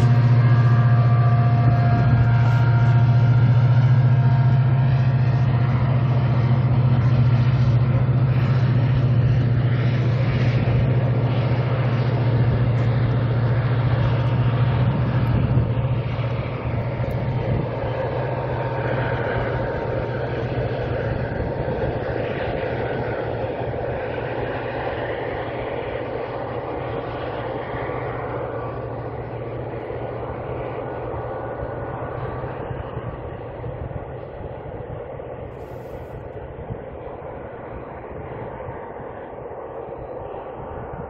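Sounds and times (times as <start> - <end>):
freight wagons rumbling on rails: 0.0 - 38.8
diesel locomotive engine hum: 0.0 - 41.0.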